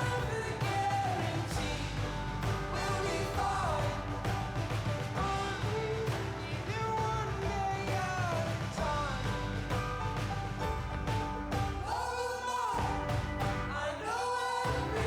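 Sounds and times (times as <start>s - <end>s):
song with singing voice: 0.0s - 10.4s, 11.7s - 15.0s.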